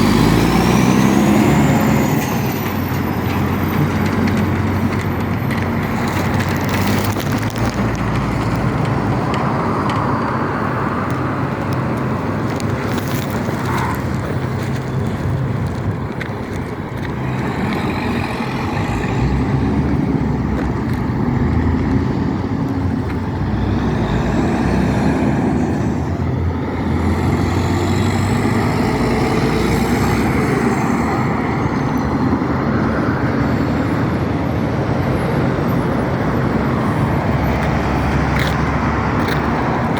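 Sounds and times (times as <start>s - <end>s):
truck diesel engine running: 0.0s - 39.9s
tyre and traffic noise: 0.0s - 39.9s.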